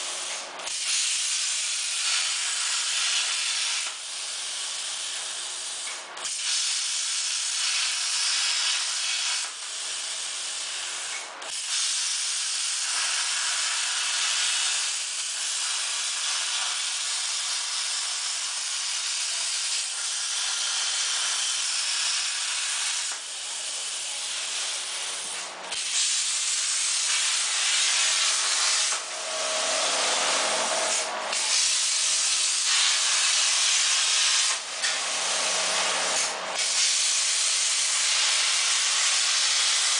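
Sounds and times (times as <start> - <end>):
plasma torch cutting metal: 0.0 - 39.9.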